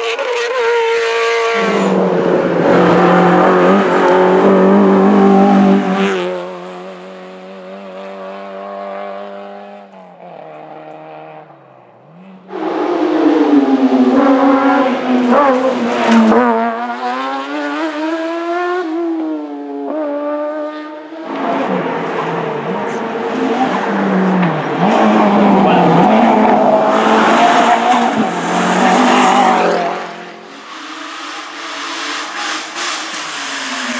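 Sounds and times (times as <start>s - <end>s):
car engine changing gears: 0.0s - 33.9s
racing car engines at full throttle: 0.0s - 33.9s.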